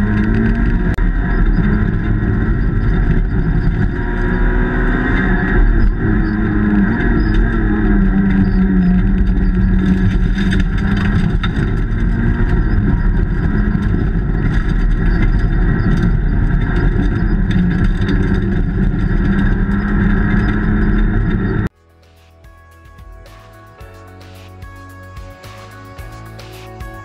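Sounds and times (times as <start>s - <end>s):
rally car engine running hard: 0.0s - 21.7s.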